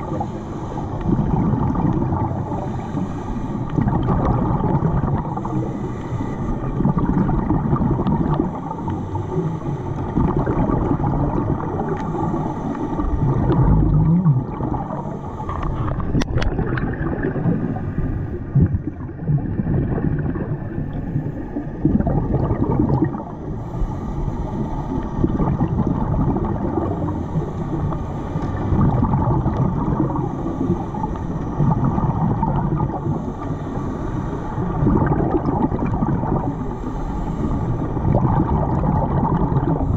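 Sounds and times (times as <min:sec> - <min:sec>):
low underwater rumble: 0:00.0 - 0:39.9
regulator exhaust bubbles gurgling: 0:00.0 - 0:39.9.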